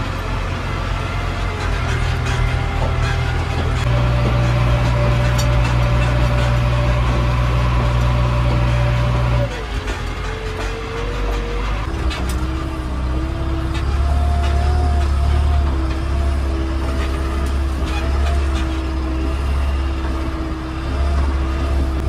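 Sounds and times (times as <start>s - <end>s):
diesel engines rumbling: 0.0s - 22.0s
wavering engine whine: 0.0s - 22.0s.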